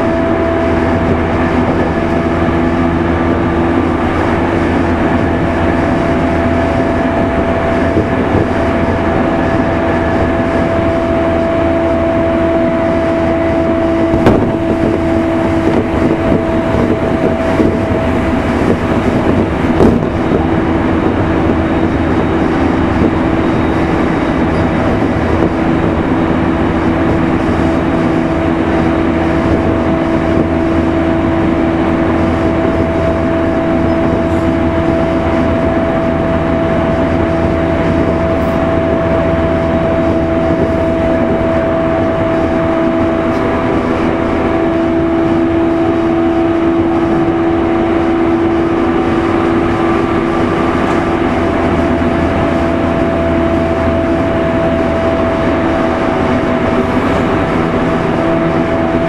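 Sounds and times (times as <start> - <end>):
train drive hum: 0.0 - 59.0
train wheels rumbling on rail: 0.0 - 59.0.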